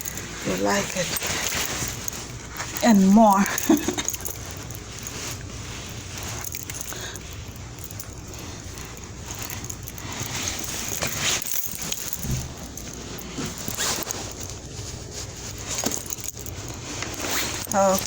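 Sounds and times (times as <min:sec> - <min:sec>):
winter clothing rustling: 0:00.0 - 0:18.0.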